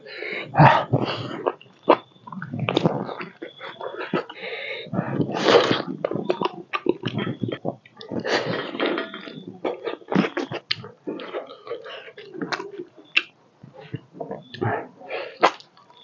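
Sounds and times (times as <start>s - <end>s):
person chewing with wet mouth sounds: 0.4s - 16.0s.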